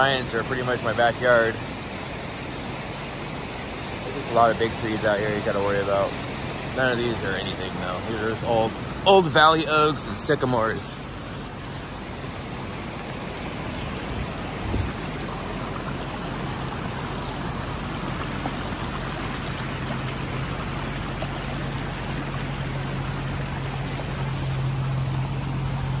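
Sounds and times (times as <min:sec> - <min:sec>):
floodwater rushing: 0:00.0 - 0:26.0
vehicle engine idling: 0:00.0 - 0:26.0.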